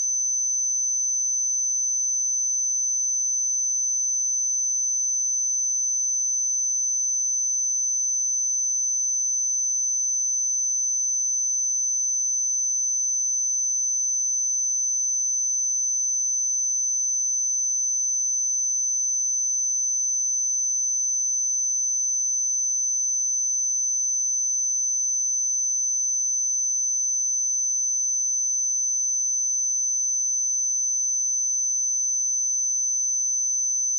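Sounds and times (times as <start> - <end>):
high sine-wave test tone: 0.0 - 33.9.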